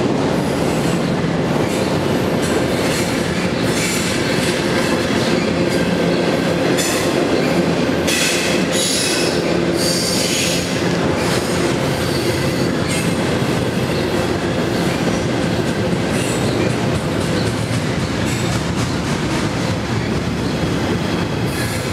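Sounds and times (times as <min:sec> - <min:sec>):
train wheels rumbling on rail: 0:00.0 - 0:21.9.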